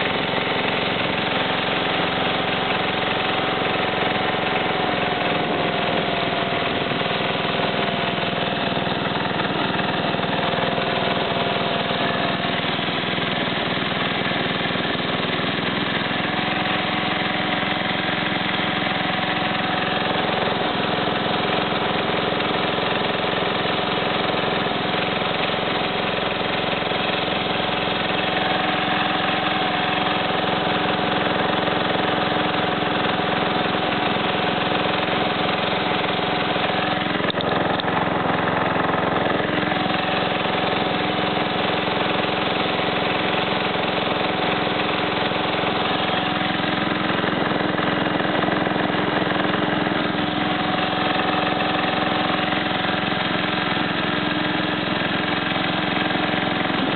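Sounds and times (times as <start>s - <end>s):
lawn tractor engine running: 0.0s - 56.9s.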